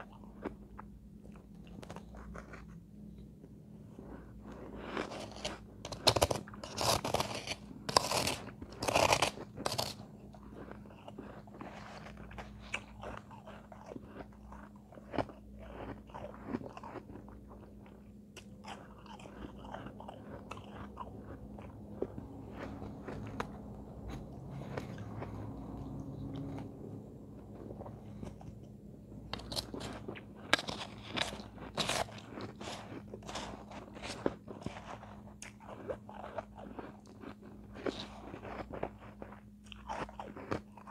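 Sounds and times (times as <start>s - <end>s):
person chewing shaved ice: 0.0s - 40.9s.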